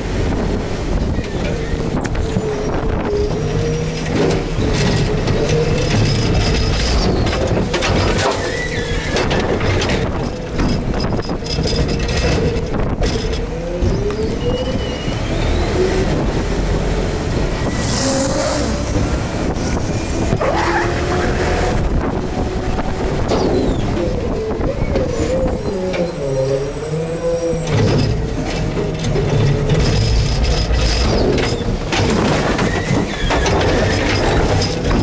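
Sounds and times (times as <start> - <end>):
garbage truck engine rumble: 0.0 - 35.0
hydraulic whine: 0.2 - 35.0.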